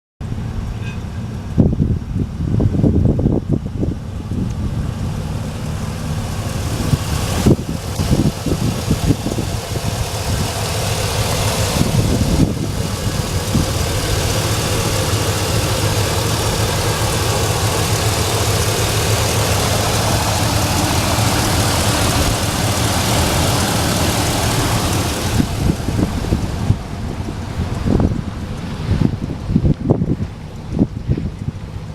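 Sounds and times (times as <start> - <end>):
pickup truck engine idling: 0.5 - 31.9.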